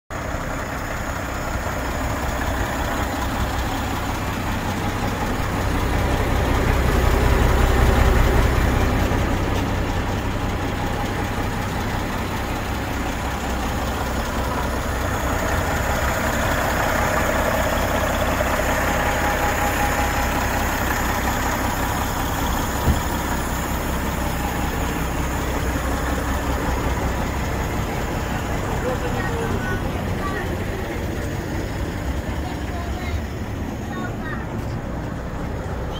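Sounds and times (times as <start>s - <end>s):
diesel truck engine idling: 0.1s - 35.9s.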